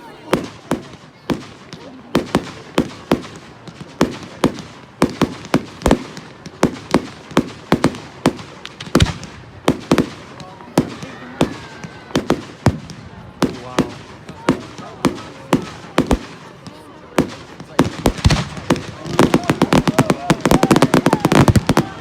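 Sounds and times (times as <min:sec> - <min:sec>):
fireworks bangs: 0:00.0 - 0:22.0
fireworks crackle: 0:00.0 - 0:22.0.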